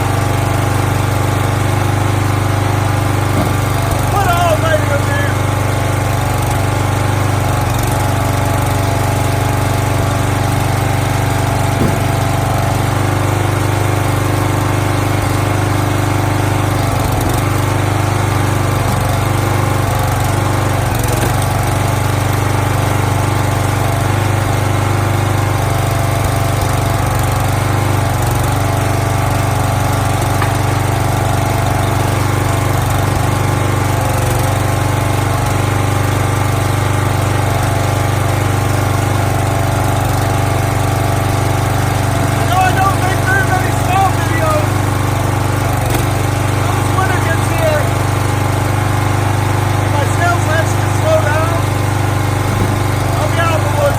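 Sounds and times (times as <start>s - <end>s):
small gasoline engine running: 0.0s - 53.9s.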